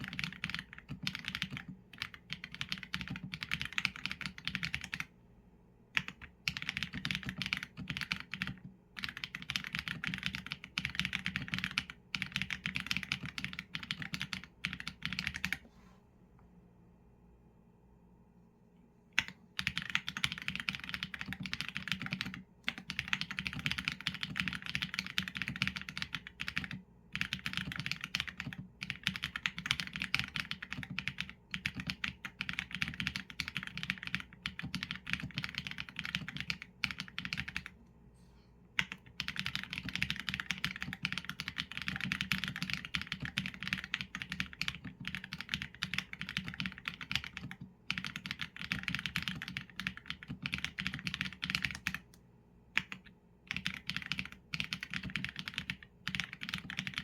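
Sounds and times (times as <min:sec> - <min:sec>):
fast typing on mechanical keyboard: 0:00.0 - 0:05.1, 0:06.0 - 0:15.6, 0:19.2 - 0:37.8, 0:38.8 - 0:52.1, 0:52.8 - 0:57.0.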